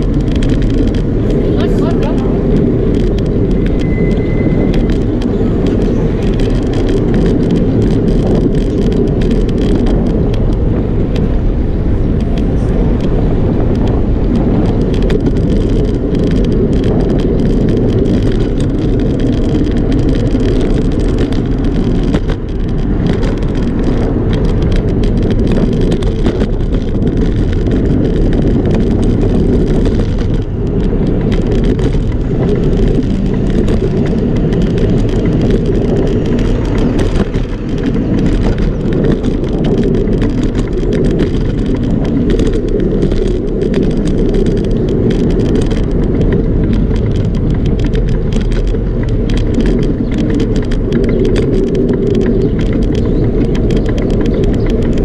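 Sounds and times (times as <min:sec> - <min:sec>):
bicycle rattles and clicks: 0:00.0 - 0:55.0
bicycle tyre rumble: 0:00.0 - 0:55.0
wind on microphone: 0:00.0 - 0:55.0.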